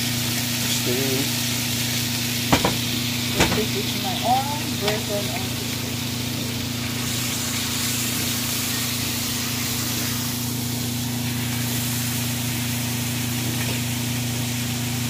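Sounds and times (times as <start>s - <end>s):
steak sizzling in a skillet: 0.0s - 15.0s.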